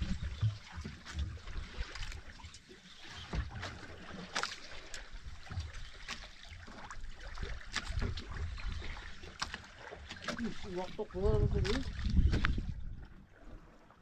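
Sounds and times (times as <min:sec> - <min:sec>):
water lapping against kayak hull: 0:00.0 - 0:14.0.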